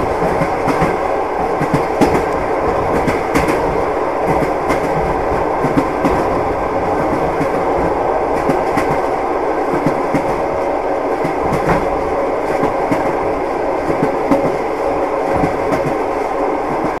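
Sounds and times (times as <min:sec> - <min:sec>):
track clicks and knocks: 0:00.0 - 0:10.5, 0:11.1 - 0:14.6, 0:15.3 - 0:17.0
train wheels rumbling on rail: 0:00.0 - 0:17.0.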